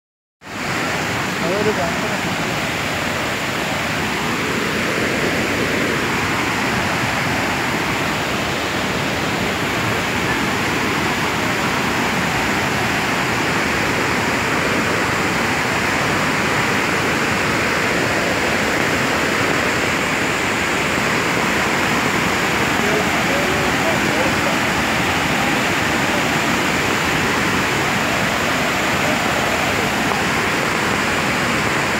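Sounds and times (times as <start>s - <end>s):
flood water rushing over boulders: 0.4s - 31.9s.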